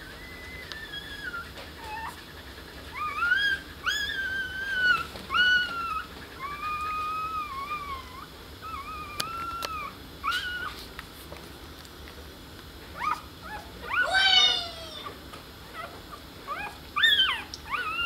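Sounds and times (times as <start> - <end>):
short rising puppy squeals: 0.0 - 2.2, 2.9 - 10.8, 13.0 - 18.0
puppies whining: 0.0 - 10.9, 12.9 - 18.0.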